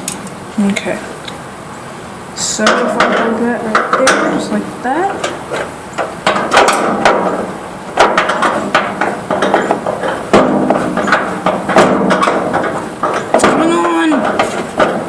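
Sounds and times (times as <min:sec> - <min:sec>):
hand tools knocking on metal: 0:02.6 - 0:15.0.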